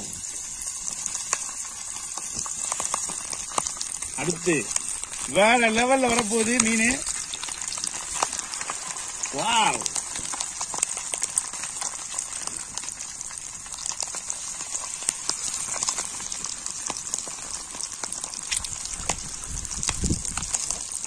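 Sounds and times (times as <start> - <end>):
fish sizzling in oil: 0.0 - 21.0.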